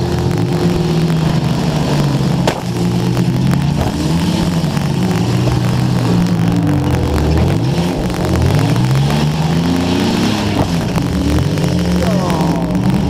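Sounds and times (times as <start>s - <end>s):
car engines revving: 0.0s - 13.0s
crackling microphone static: 0.0s - 13.0s.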